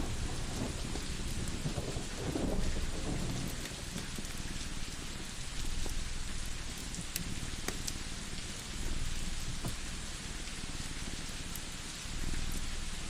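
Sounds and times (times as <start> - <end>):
wood fire crackling and popping: 0.0 - 10.6
low continuous rumble: 0.0 - 13.0
steady rain hiss: 0.0 - 13.0.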